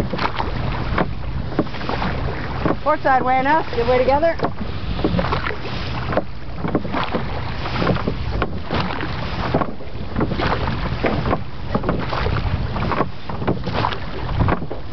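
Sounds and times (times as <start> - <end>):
oars knocking and splashing: 0.0 - 14.9
wind buffeting microphone: 0.0 - 14.9.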